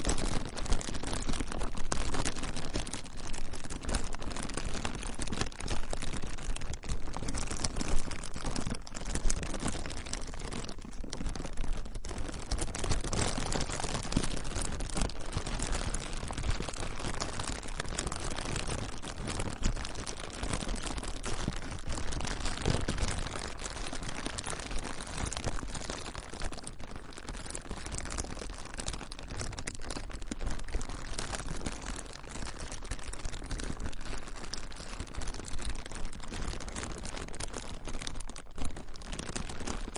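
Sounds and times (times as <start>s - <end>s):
plastic crinkling by hand: 0.0s - 39.9s.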